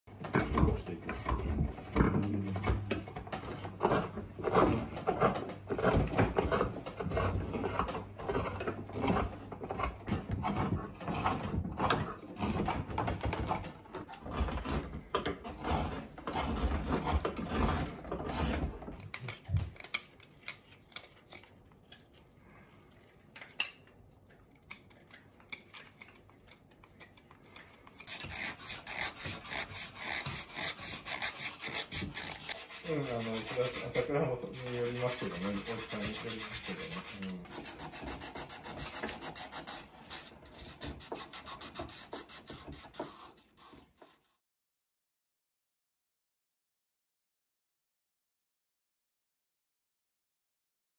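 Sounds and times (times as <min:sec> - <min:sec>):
knives scraping and shaving wood: 0:00.2 - 0:44.4.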